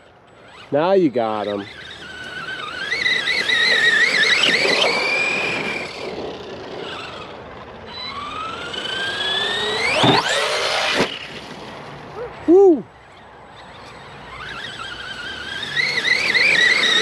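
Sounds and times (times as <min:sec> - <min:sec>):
electric motor whining: 0:00.2 - 0:11.5, 0:13.1 - 0:17.0.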